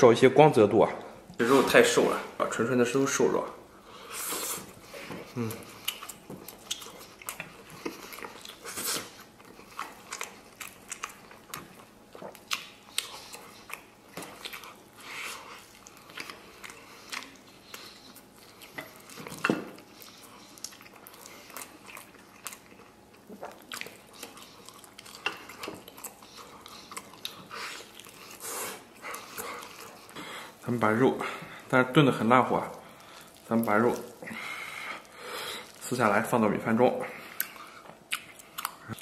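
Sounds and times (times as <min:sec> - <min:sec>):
man chewing meat: 0:03.6 - 0:36.4, 0:37.0 - 0:39.0.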